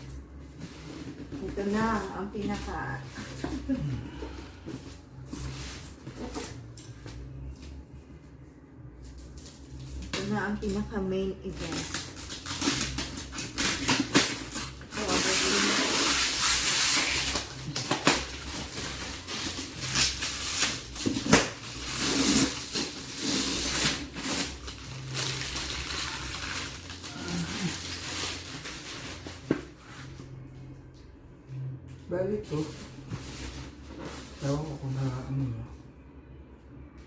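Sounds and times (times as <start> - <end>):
packaging rustling and scraping: 0.0 - 7.8, 9.0 - 30.4, 32.4 - 35.2.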